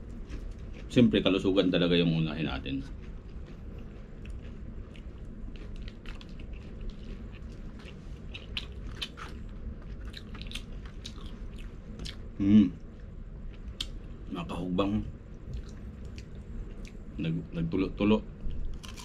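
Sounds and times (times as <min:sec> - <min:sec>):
man chewing food: 0:00.0 - 0:01.2, 0:02.6 - 0:14.3, 0:15.2 - 0:17.2, 0:18.4 - 0:19.0.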